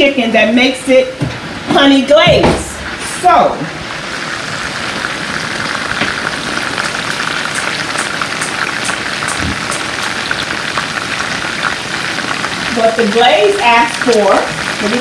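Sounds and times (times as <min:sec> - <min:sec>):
chicken sizzling in hot oil: 0:02.7 - 0:15.0.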